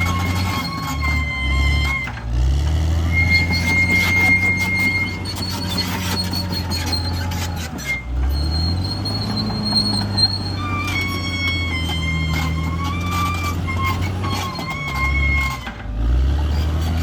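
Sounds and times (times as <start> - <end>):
thin high squeal: 0.0 - 2.2, 3.0 - 15.8
bulldozer diesel engine: 0.0 - 17.0.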